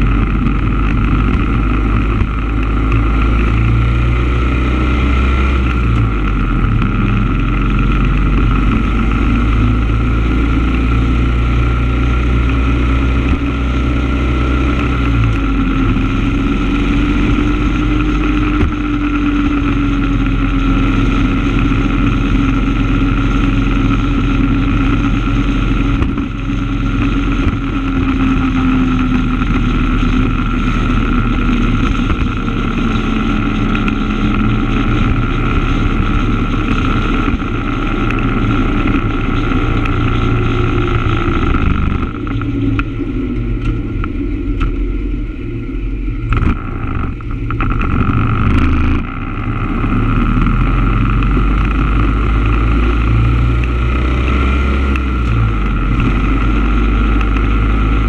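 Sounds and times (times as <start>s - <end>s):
road and wind noise: 0.0s - 58.0s
vehicle engine running: 0.0s - 58.0s.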